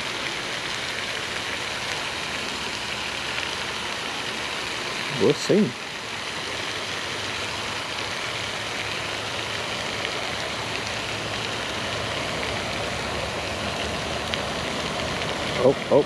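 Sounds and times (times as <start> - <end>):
fountain spray falling on water: 0.0 - 16.0.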